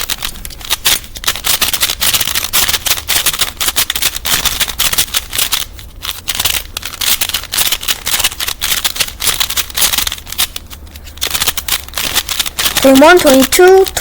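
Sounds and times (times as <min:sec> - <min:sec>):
plastic puzzle pieces clicking: 0:00.0 - 0:14.0.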